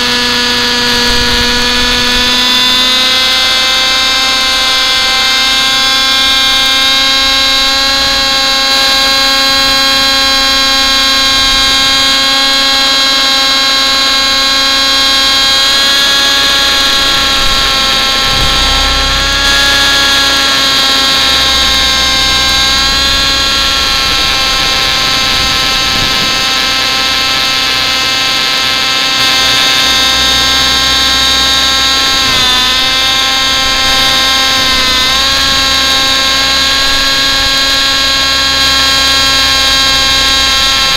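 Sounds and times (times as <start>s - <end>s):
model helicopter engine whine: 0.0s - 40.9s.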